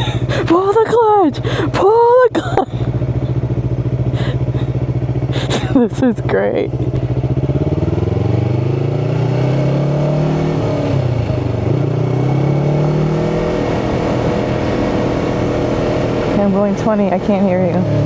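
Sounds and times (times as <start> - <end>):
motorcycle engine revving under way: 0.0 - 18.0.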